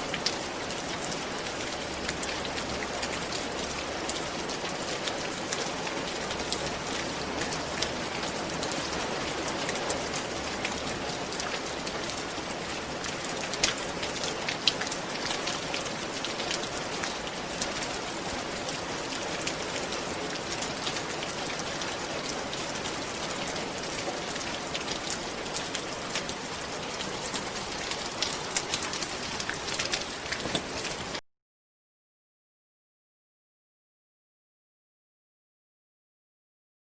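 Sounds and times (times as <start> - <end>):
rain on a roof: 0.0 - 31.2.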